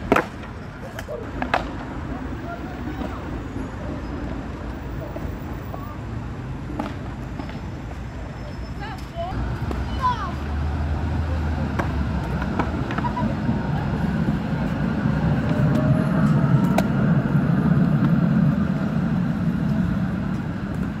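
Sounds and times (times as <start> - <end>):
tram rumbling past: 1.8 - 21.0.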